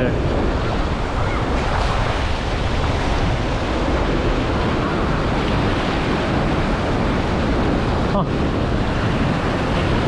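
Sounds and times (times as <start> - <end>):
open water washing: 0.0 - 10.0
wind blowing across microphone: 0.0 - 10.0.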